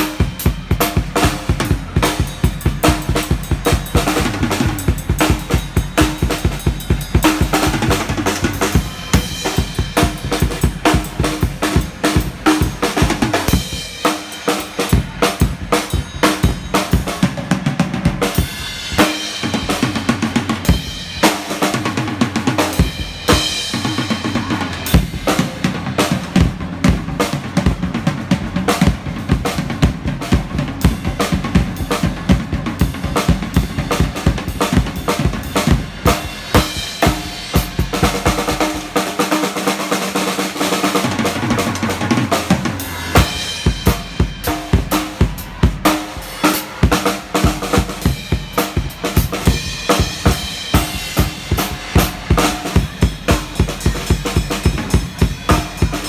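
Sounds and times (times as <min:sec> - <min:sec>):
drum kit playing fast groove: 0:00.0 - 0:56.0.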